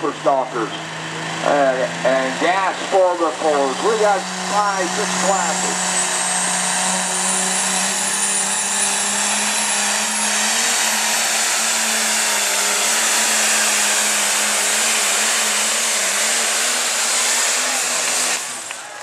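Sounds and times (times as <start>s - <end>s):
diesel tractor engine revving: 0.0s - 19.0s.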